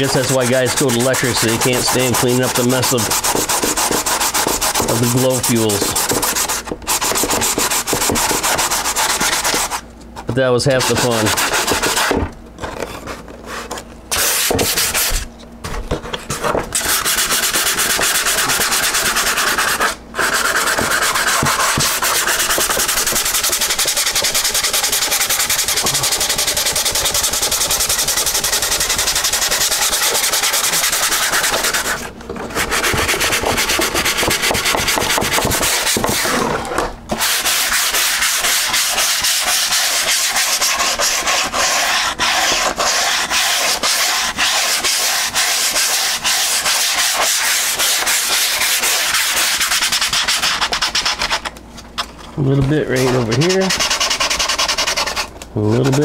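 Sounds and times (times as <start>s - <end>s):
sandpaper rubbing on wing: 0.0s - 9.8s, 10.7s - 12.1s, 16.8s - 36.4s, 37.2s - 51.5s, 53.0s - 56.0s.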